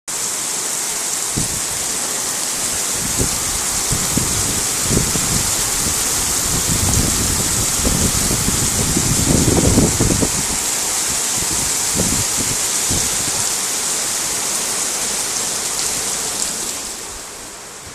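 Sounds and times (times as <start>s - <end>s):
heavy rain pouring: 0.1s - 17.9s.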